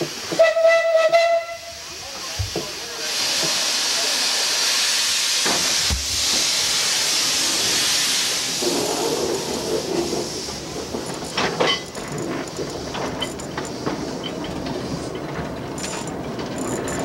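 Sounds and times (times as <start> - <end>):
clanks of train cars and wheels: 0.0 - 17.0
low rumble of train: 0.0 - 17.0
steam locomotive hissing: 0.0 - 17.0.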